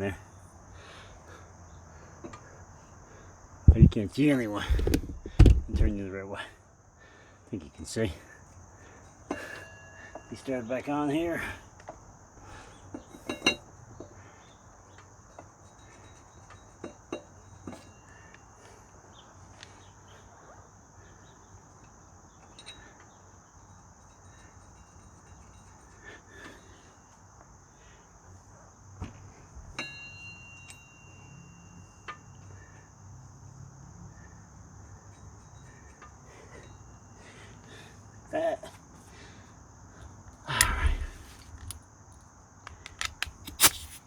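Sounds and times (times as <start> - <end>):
high insect chorus: 0.0 - 44.0.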